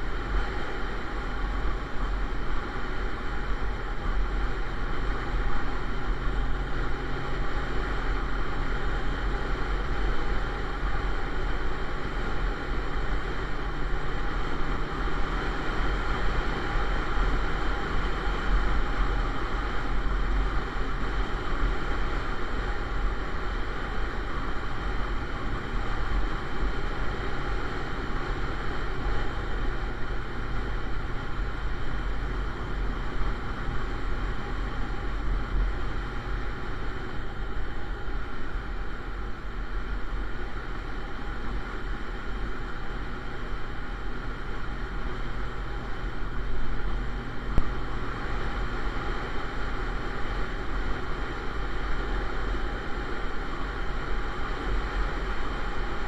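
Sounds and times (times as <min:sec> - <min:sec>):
motorcycle engine drone: 0:00.0 - 0:56.0.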